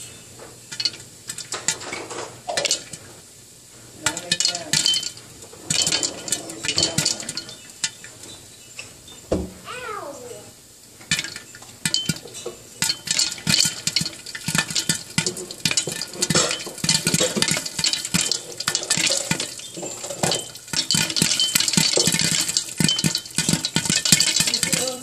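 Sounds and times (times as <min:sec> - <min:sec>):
popcorn popping in a pot: 0:00.0 - 0:10.0, 0:10.8 - 0:25.0.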